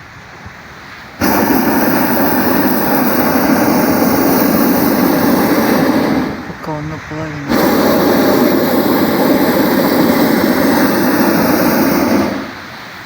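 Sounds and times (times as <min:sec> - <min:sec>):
propane burner blast: 0:00.6 - 0:13.0.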